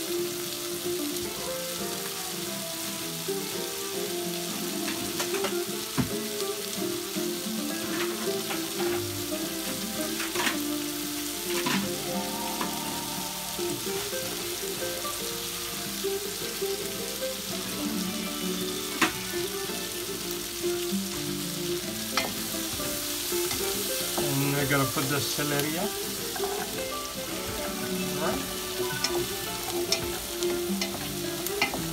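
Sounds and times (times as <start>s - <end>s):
vegetables sizzling in a pot: 0.0s - 31.9s.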